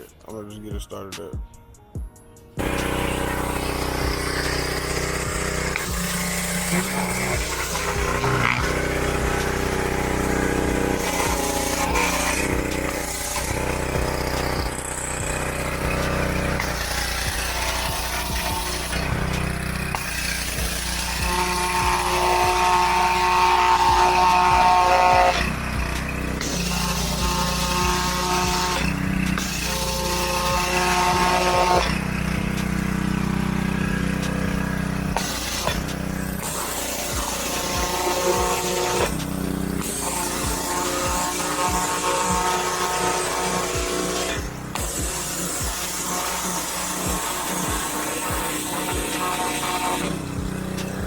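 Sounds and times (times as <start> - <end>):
pressure washer engine running: 2.5 - 51.0
higher note: 2.6 - 51.0.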